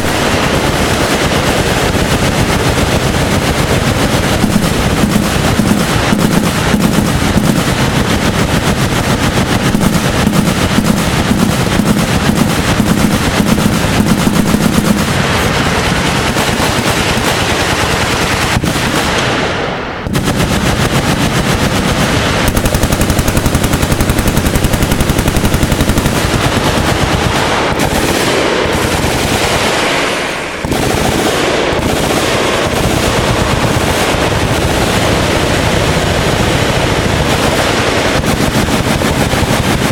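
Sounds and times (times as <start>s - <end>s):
machine guns firing: 0.0s - 39.9s.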